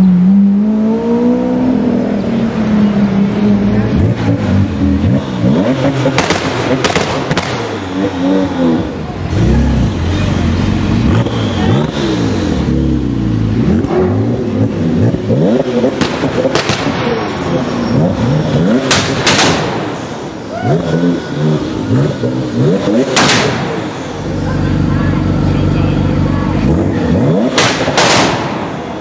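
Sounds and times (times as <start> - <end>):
car engine revving: 0.0 - 29.0
exhaust cracks: 3.7 - 10.2, 10.8 - 29.0.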